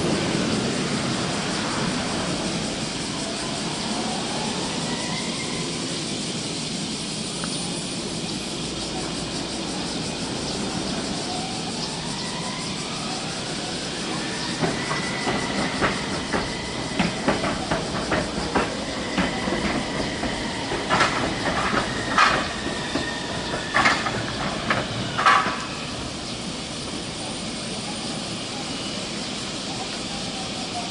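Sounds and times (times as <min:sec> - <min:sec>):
tram high whine: 0:00.0 - 0:30.9
tram wheels clacking over rail joints: 0:00.0 - 0:30.9.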